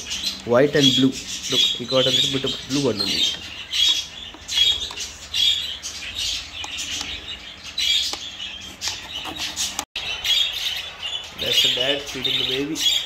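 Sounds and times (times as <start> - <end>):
budgerigars chirping and squawking: 0.0 - 13.0.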